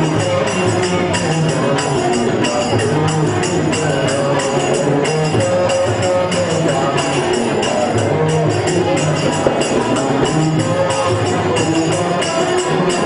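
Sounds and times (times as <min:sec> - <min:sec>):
harmonium: 0:00.0 - 0:13.0
jingling percussion beat: 0:00.0 - 0:13.0
man singing: 0:00.0 - 0:13.0.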